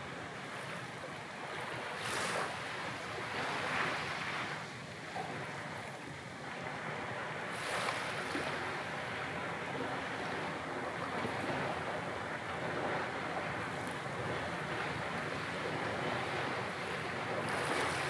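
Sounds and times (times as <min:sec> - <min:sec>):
sea waves washing in: 0:00.0 - 0:18.0.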